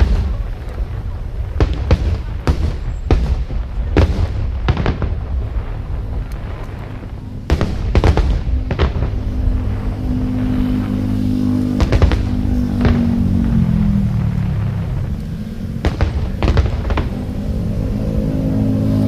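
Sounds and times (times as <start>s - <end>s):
fireworks bangs: 0.0s - 18.2s
low rumble of fireworks: 0.0s - 19.0s.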